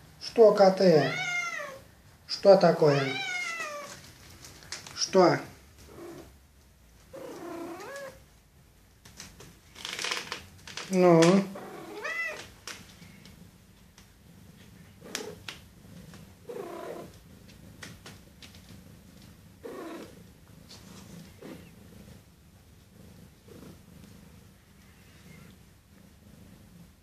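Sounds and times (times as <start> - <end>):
cat purring: 0.2 - 9.8, 10.4 - 27.0.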